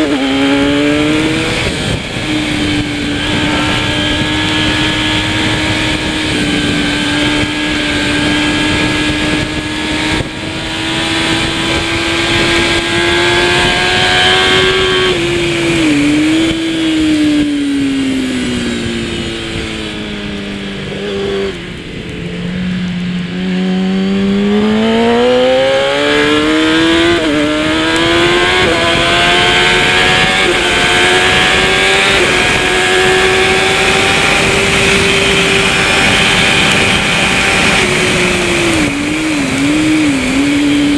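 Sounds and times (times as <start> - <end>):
motorcycle engine revving and shifting: 0.0 - 40.9.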